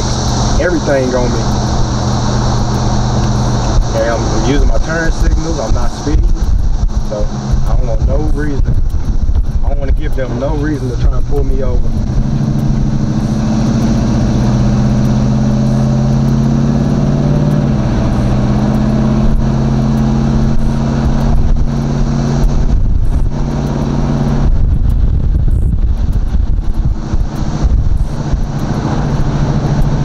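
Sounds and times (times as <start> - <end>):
car engine droning: 0.0 - 30.0.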